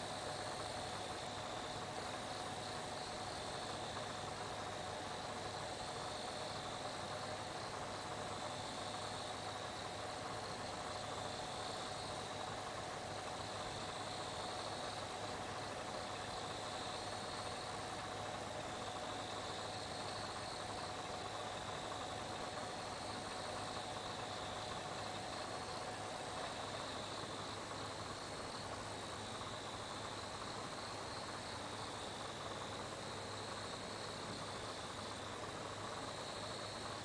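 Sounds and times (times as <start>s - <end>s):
faint steady tone: 0.0s - 37.0s
low steady hum: 0.0s - 37.0s
night insects chirping: 0.0s - 37.0s.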